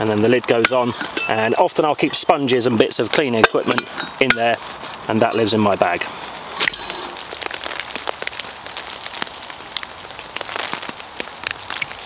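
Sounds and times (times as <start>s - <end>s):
rain on a tarp: 0.0s - 12.0s.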